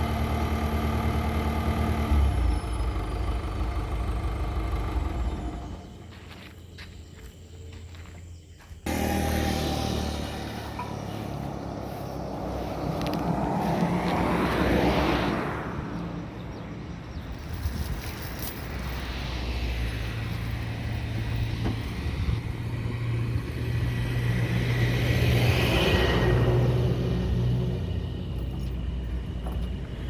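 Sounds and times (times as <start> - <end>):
bulldozer diesel engine running: 0.0 - 6.4, 8.9 - 14.7, 15.8 - 30.0.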